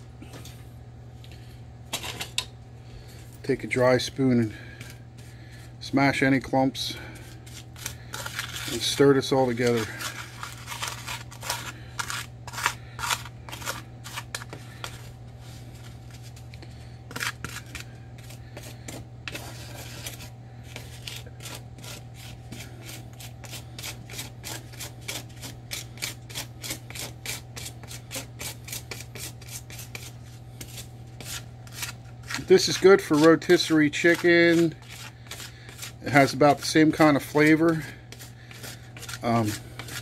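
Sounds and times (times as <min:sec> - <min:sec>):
steady low hum: 0:00.0 - 0:40.0
plastic spoon scraping on paper plate: 0:07.2 - 0:16.4, 0:17.1 - 0:40.0.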